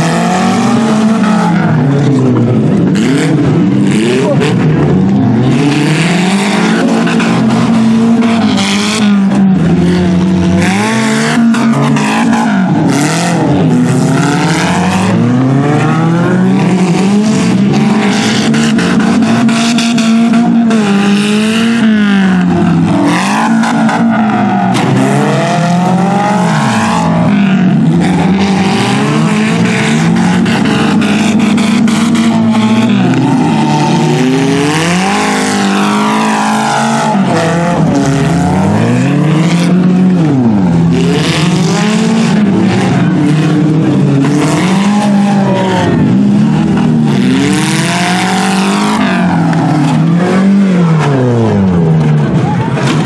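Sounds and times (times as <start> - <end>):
car engines revving hard: 0.0 - 53.0.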